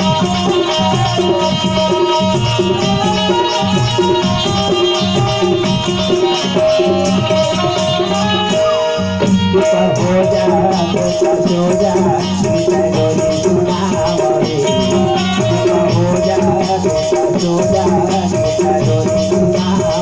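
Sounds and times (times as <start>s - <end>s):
harmonium melody: 0.0s - 20.0s
tabla drums: 0.0s - 20.0s.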